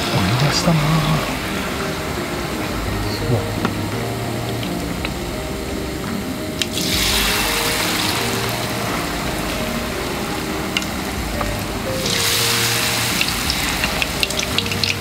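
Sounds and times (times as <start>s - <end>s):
oil sizzling and bubbling: 0.0s - 15.0s.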